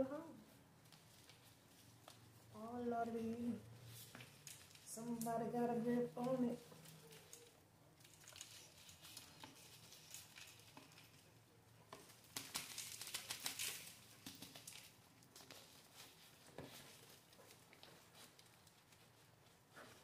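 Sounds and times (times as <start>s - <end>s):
potting soil rustling: 0.0s - 20.0s
plastic pot crinkling: 0.3s - 20.0s.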